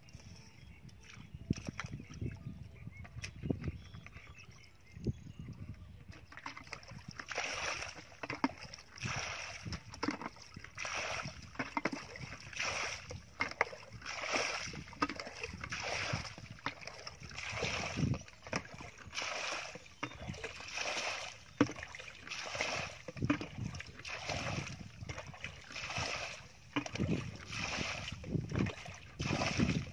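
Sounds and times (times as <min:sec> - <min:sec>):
bucket scooping and splashing water: 0:01.0 - 0:02.4, 0:06.1 - 0:29.9.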